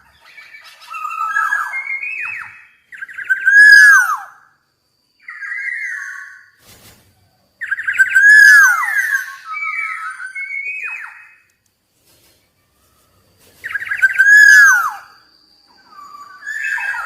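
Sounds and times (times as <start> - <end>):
oriole whistled song: 0.0 - 4.6, 5.2 - 6.6, 7.6 - 11.6, 12.8 - 17.0.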